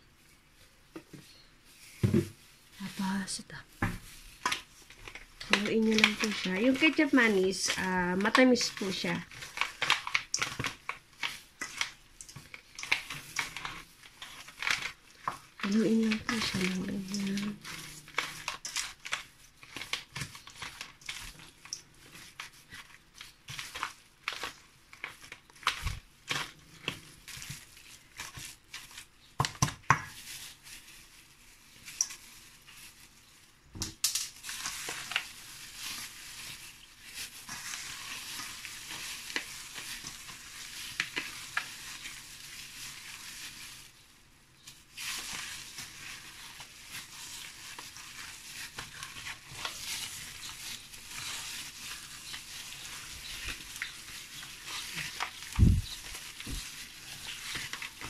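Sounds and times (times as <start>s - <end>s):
plastic glove crinkling: 0.0s - 58.0s.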